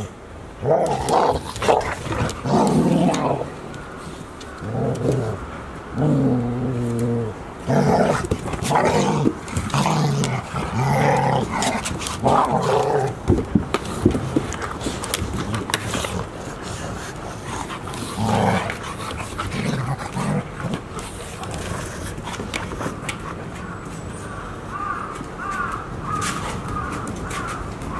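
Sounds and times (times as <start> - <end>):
dogs growling and barking: 0.6 - 24.0.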